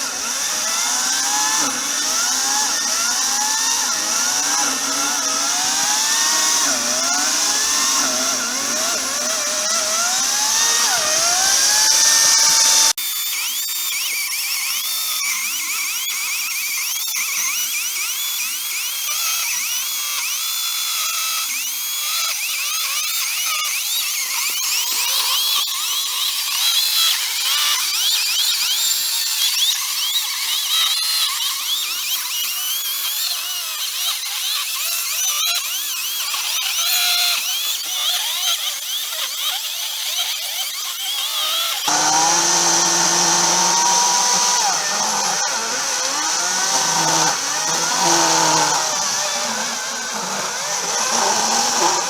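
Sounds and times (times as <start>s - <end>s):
electric chainsaw cutting log: 0.0s - 52.0s.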